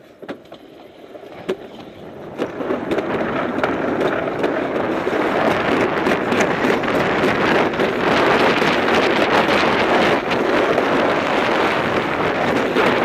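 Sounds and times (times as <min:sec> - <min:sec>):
sled rumbling on track: 0:00.0 - 0:13.0
wind on microphone: 0:02.0 - 0:13.0.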